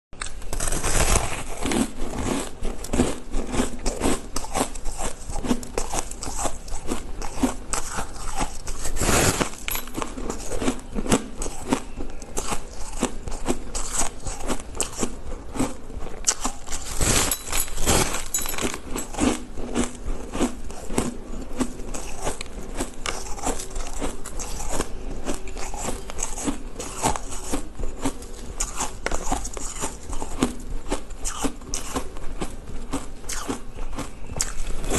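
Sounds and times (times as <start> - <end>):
crunching frozen shaved ice: 0.2 - 34.9.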